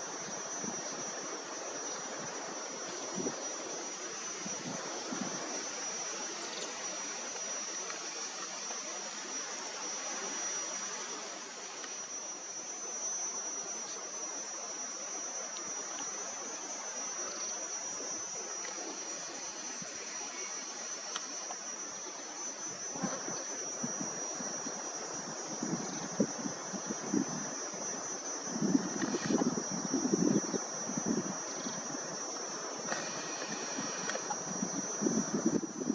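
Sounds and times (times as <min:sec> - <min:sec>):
even hiss: 0:00.0 - 0:35.9
high-pitched insect drone: 0:00.0 - 0:35.9.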